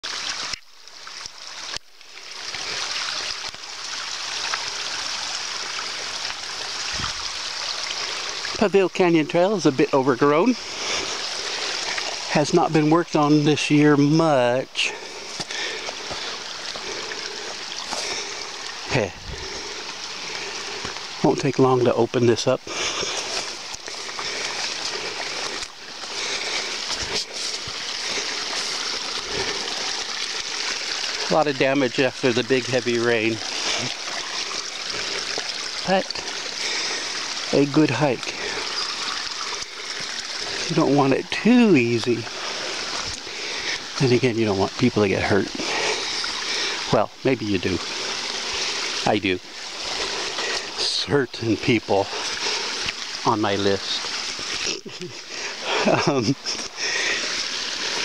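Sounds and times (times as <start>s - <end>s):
rain rushing: 0.0s - 58.0s
running water hiss: 0.0s - 58.0s.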